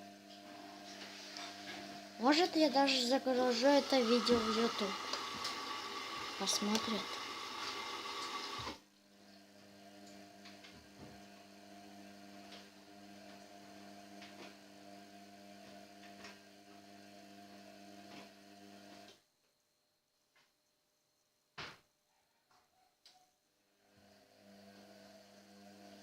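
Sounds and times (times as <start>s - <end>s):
washing machine electric hum: 0.0s - 19.4s, 23.7s - 26.0s.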